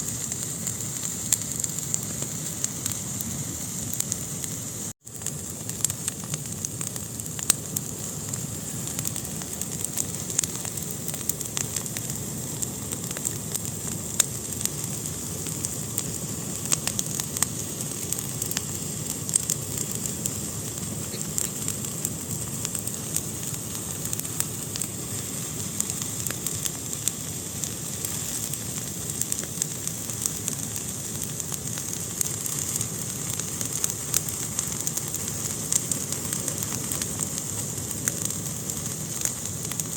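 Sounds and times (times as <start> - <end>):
fire crackling and popping: 0.0 - 39.9
fire hissing: 0.0 - 39.9.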